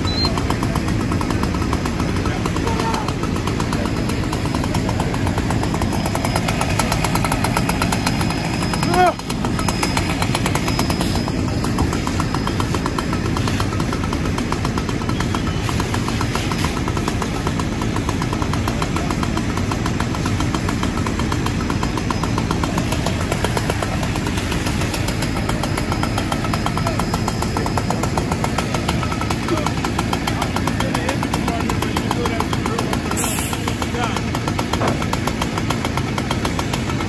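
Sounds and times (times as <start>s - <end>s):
fire engine running: 0.0s - 37.0s.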